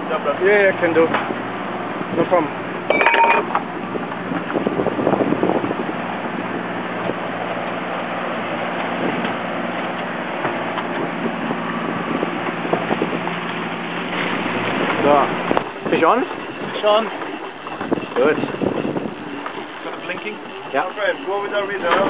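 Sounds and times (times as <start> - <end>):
boat engine running: 0.0 - 22.0
water rushing past hull: 0.0 - 22.0
wind buffeting microphone: 0.0 - 22.0.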